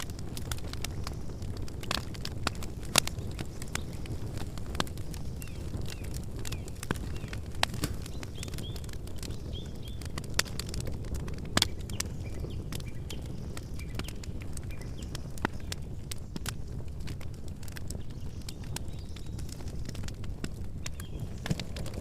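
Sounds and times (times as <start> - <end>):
campfire flame rushing: 0.0 - 22.0
fire crackling and popping: 0.0 - 22.0.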